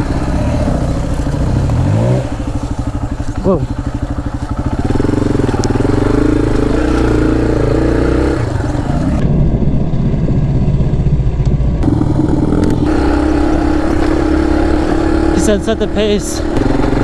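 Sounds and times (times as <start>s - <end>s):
dirt bike engine revving: 0.0s - 9.2s, 11.8s - 17.0s.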